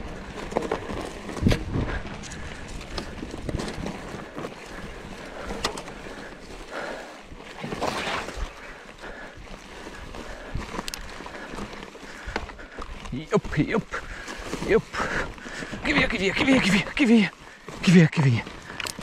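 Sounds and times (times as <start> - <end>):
bike knocking and rattling: 0.0 - 19.0
bike tyres on dirt: 0.0 - 19.0.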